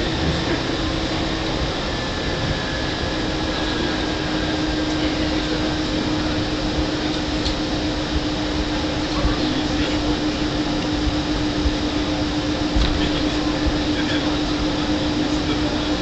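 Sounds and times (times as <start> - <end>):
airplane cabin rushing noise: 0.0 - 16.0.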